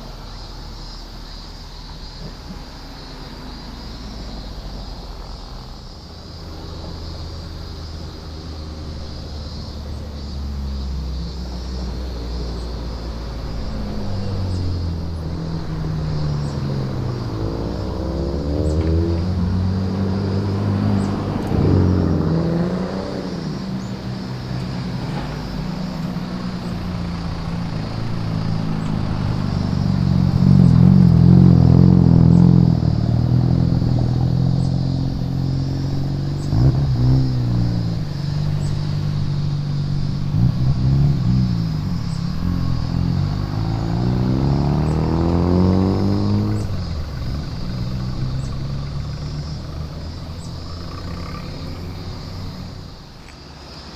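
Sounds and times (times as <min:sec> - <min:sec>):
cars revving past: 0:00.8 - 0:53.9
exhaust crackle: 0:06.6 - 0:53.3.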